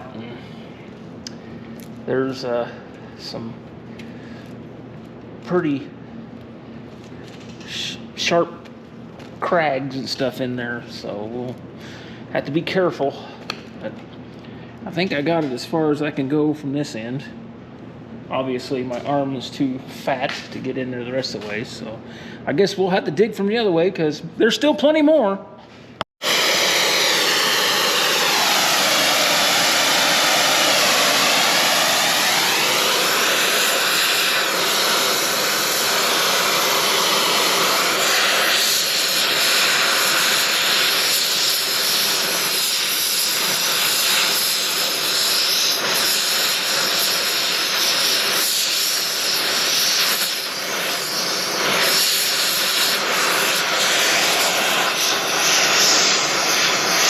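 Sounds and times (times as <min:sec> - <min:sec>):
propane torch roaring: 0:00.0 - 0:23.2, 0:26.2 - 0:57.0.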